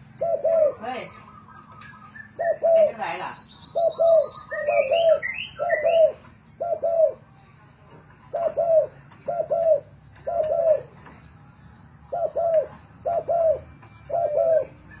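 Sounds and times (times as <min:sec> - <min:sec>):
dove cooing: 0:00.0 - 0:07.4, 0:08.1 - 0:11.3, 0:12.1 - 0:15.0.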